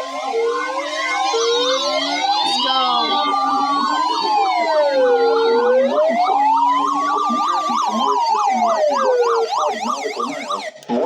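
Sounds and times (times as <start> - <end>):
siren wailing: 0.0 - 11.0
siren yelping: 0.0 - 11.0.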